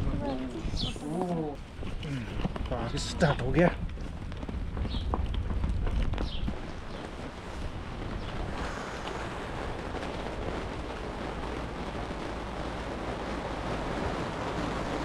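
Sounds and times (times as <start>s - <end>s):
steady rain falling: 0.0s - 15.0s
wind rumbling on microphone: 0.0s - 15.0s.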